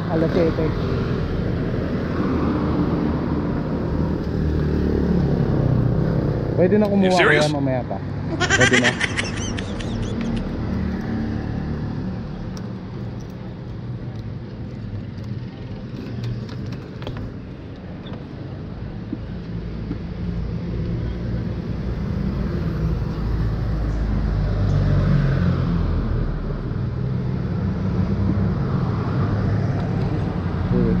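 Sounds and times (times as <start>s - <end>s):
traffic engine rumble: 2.8s - 31.0s.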